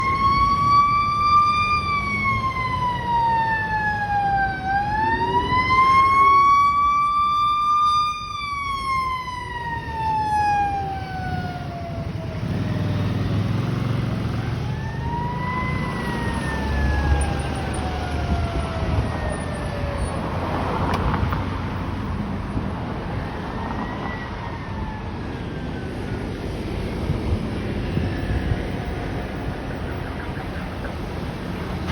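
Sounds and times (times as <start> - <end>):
fire engine siren wailing: 0.0 - 21.4, 22.0 - 31.9
vehicle engine rumble: 0.0 - 31.9.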